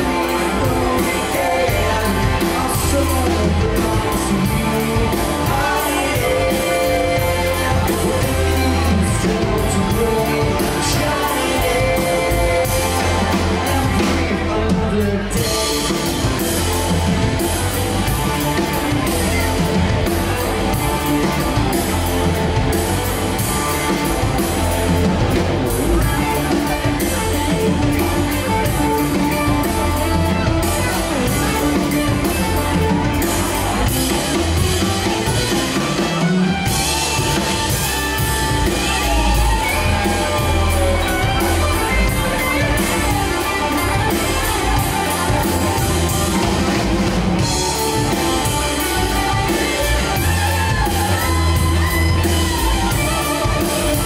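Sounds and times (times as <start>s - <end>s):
blues-rock band playing: 0.0s - 54.0s
electric guitar lead: 0.0s - 54.0s.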